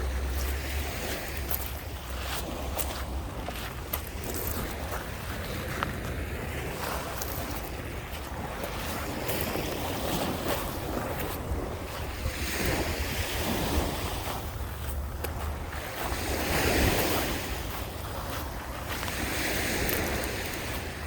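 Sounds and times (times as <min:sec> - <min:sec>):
waves breaking on beach: 0:00.0 - 0:21.0
wind on microphone: 0:00.0 - 0:21.0.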